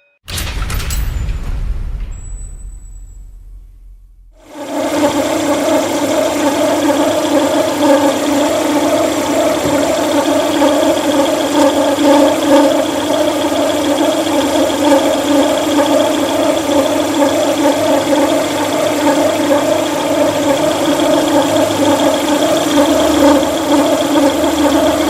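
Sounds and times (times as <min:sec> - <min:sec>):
car engine idling: 0:04.6 - 0:25.0.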